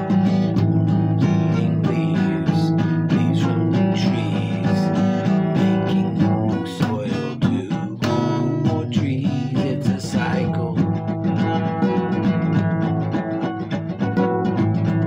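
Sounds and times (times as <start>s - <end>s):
blues acoustic guitar: 0.0s - 15.0s.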